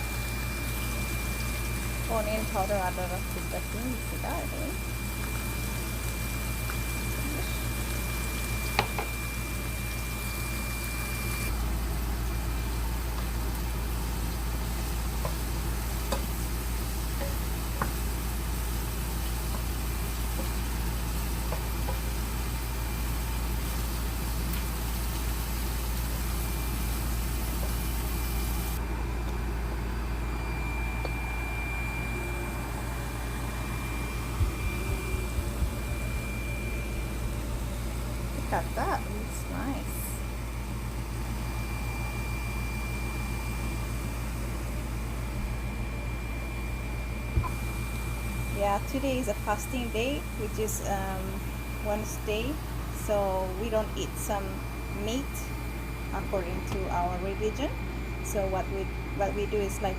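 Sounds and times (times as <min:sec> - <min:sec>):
constant low hum: 0:00.0 - 0:59.9.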